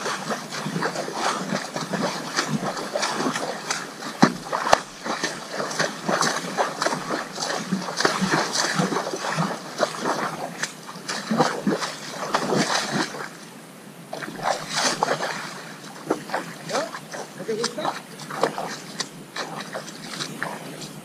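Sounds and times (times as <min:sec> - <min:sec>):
hoof splashing in muddy puddle: 0:00.0 - 0:13.4, 0:14.1 - 0:21.0.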